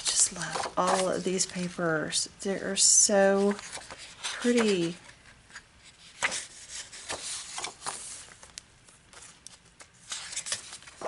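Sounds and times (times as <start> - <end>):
paper sheets rustling: 0.0 - 1.7, 3.2 - 11.0.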